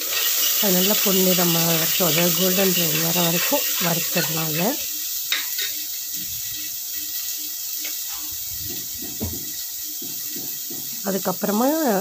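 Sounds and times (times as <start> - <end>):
onions sizzling in hot fat: 0.0 - 12.0.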